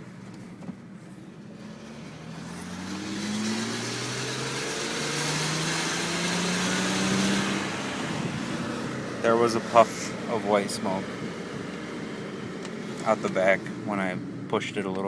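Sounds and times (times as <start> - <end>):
car engine accelerating: 0.2 - 15.0.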